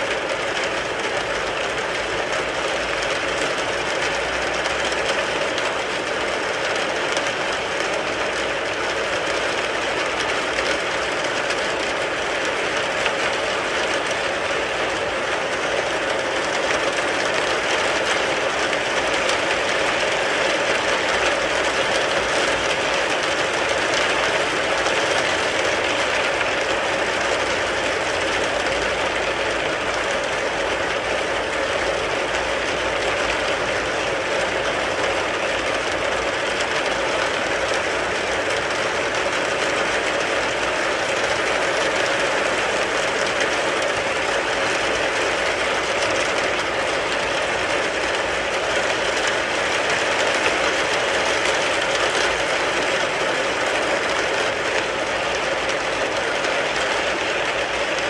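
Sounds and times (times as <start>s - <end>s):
rain pattering on a car: 0.0s - 58.0s.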